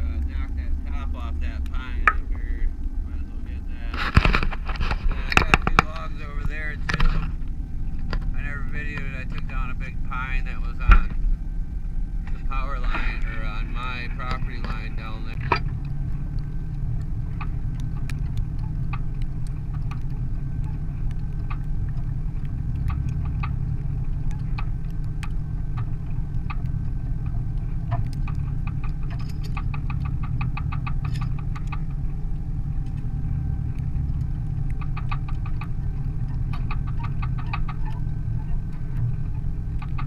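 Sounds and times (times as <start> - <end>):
rapid ticking or rattling: 0.0 - 40.0
truck engine rumbling: 0.0 - 40.0.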